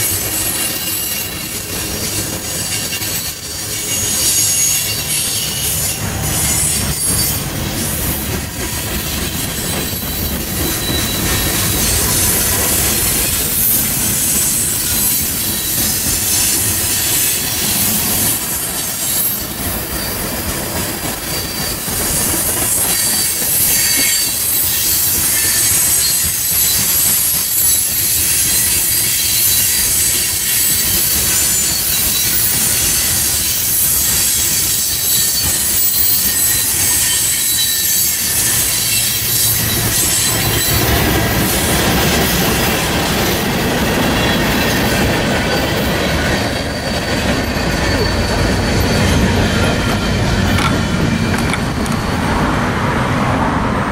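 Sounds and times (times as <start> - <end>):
rumble of train cars: 0.0 - 53.9
train wheels squealing on rails: 0.0 - 53.9.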